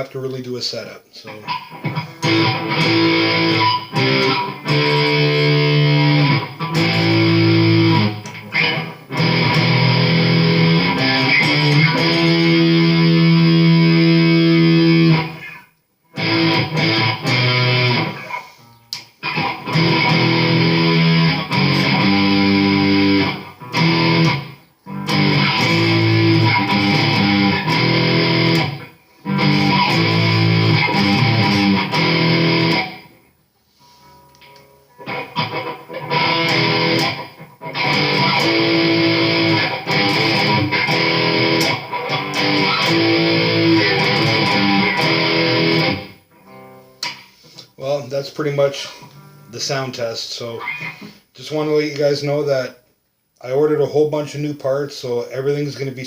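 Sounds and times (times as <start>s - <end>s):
electric guitar chords: 1.3s - 51.2s.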